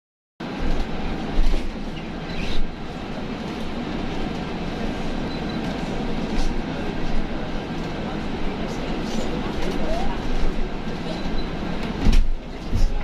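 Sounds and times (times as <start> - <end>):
bus rumble and road noise: 0.4 - 13.0.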